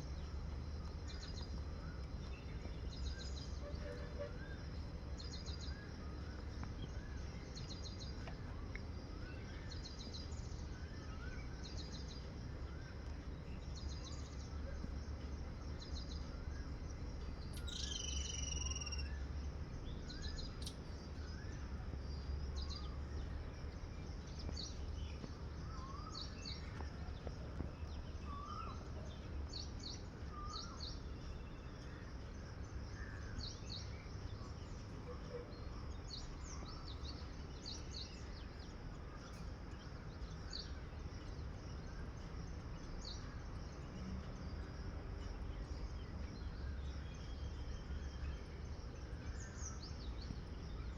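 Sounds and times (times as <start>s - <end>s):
steady low rumble: 0.0s - 18.2s, 19.0s - 50.9s.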